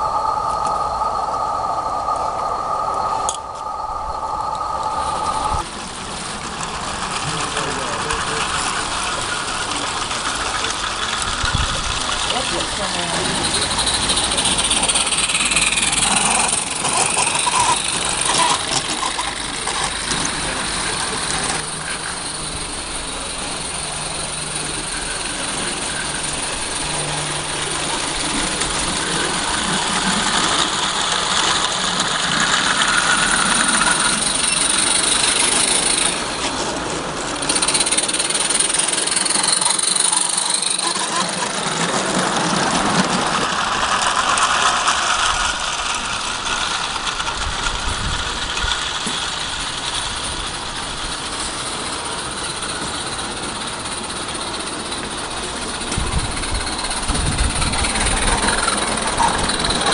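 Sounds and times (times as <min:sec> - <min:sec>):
model train running on track: 0:00.0 - 0:59.9.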